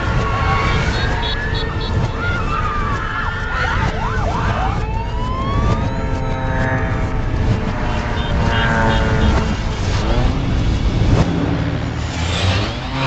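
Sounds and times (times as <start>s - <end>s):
gliding siren-like tones: 0.0s - 11.0s
reversed vehicle rumble: 0.0s - 13.0s.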